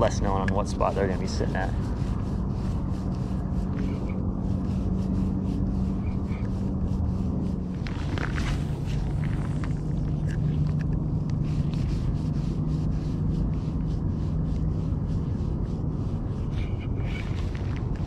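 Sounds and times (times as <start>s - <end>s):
low hum: 0.0s - 18.0s
low rumble: 0.0s - 18.0s.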